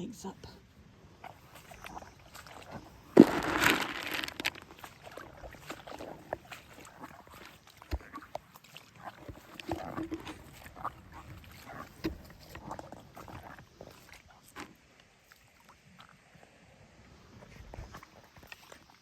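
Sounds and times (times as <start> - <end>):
feet splashing through water: 0.7 - 19.0.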